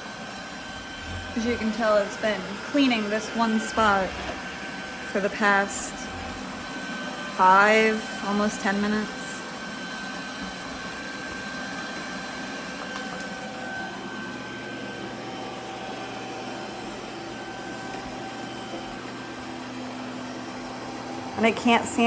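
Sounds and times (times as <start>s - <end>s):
robot vacuum motor whirring: 0.1s - 19.6s.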